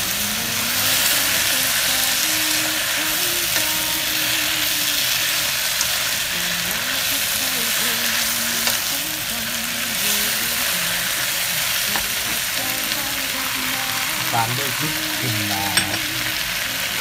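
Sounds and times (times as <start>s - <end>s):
food sizzling in a hot pan: 0.0s - 17.0s.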